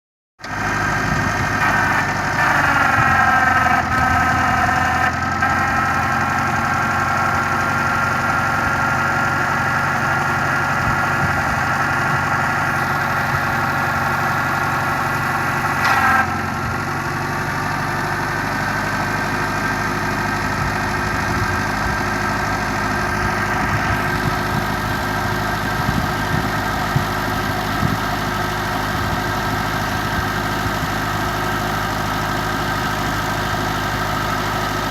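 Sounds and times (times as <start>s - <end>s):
forklift engine idling: 0.4s - 34.9s.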